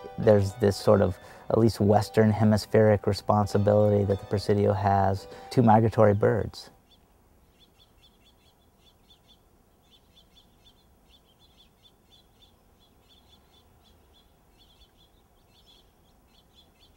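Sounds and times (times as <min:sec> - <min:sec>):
faint songbird chirping: 0:00.0 - 0:16.9.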